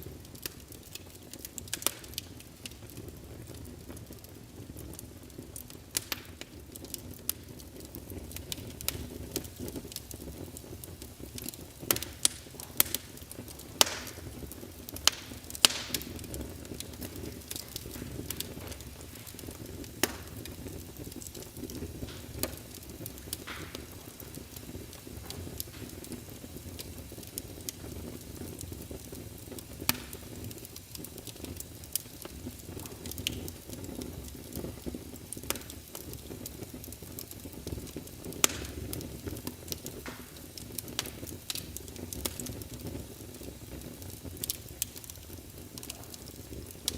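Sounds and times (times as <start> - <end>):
sharp fire pops: 0.0 - 46.9
wood fire crackling: 0.0 - 46.9.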